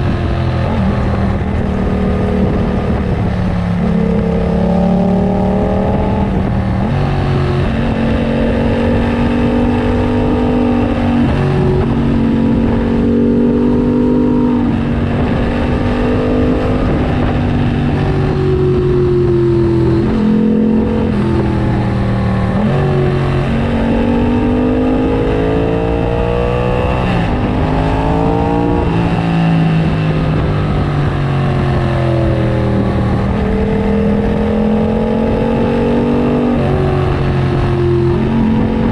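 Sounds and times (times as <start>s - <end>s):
motorcycle engine revving with gear changes: 0.0s - 38.9s.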